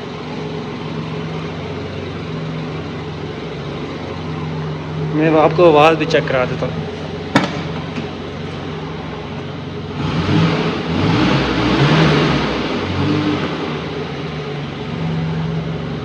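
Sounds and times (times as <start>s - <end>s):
engine idling and revving: 0.0s - 16.0s.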